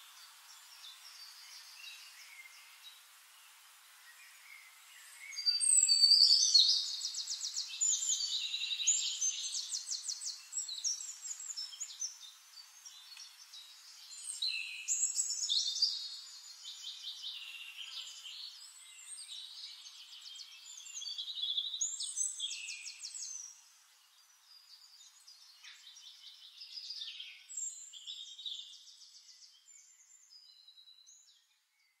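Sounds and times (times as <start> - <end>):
songbird trilling and chirping: 5.0 - 31.9.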